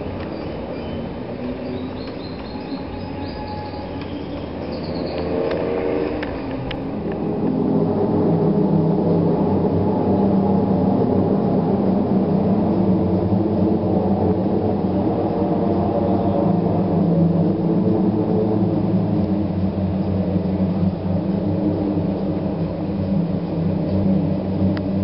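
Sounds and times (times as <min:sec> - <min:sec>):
aircraft engines droning: 0:00.0 - 0:25.0.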